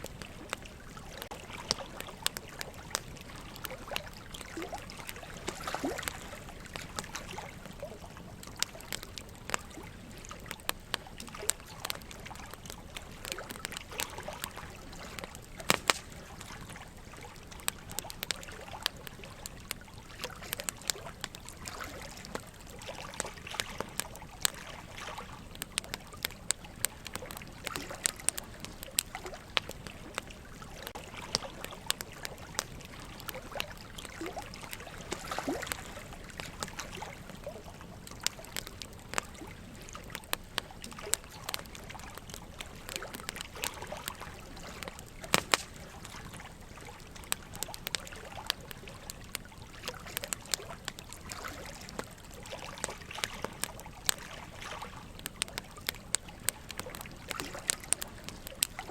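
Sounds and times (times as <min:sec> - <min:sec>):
logs crackling and popping in fire: 0:00.0 - 0:58.9
running water trickling: 0:00.0 - 0:58.9.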